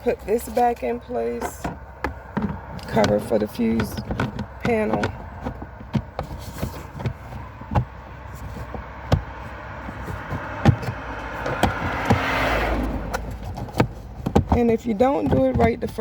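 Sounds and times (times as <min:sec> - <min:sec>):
plastic rubbing scrape: 0:00.1 - 0:12.5, 0:13.1 - 0:16.0
plastic clicks and knocks: 0:01.4 - 0:12.3, 0:13.1 - 0:16.0.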